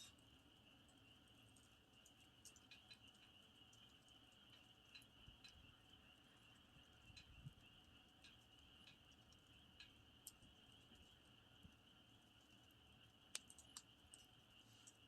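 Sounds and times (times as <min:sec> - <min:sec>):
campfire crackling and popping: 0:01.4 - 0:11.8, 0:12.5 - 0:15.0.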